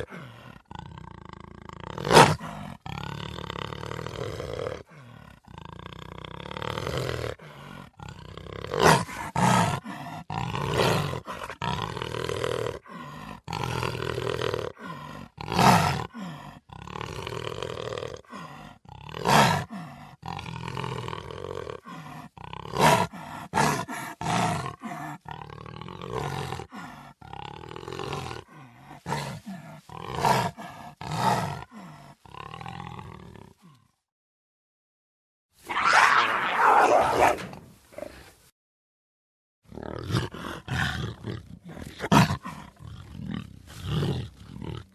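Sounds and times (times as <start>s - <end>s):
jaguar roaring: 0.0s - 31.8s, 35.7s - 38.2s, 39.7s - 44.9s
jaguar growling: 0.0s - 33.8s, 39.7s - 44.9s.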